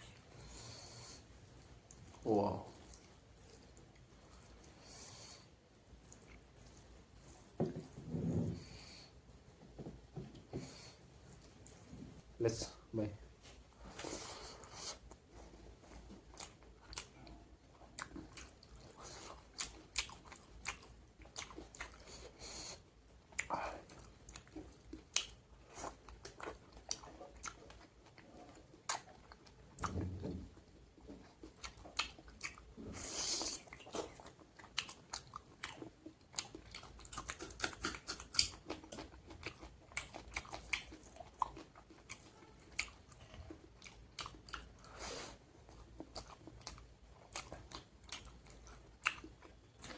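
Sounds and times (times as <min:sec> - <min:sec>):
person chewing food: 0:00.0 - 0:12.3, 0:13.6 - 0:49.9.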